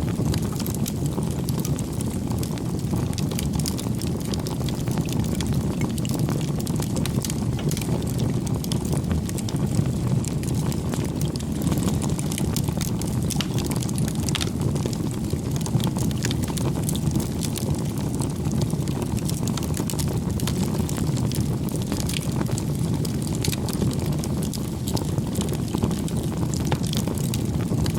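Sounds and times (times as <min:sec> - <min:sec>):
fire crackles and pops: 0:00.0 - 0:27.9
fire low rumble: 0:00.0 - 0:27.9.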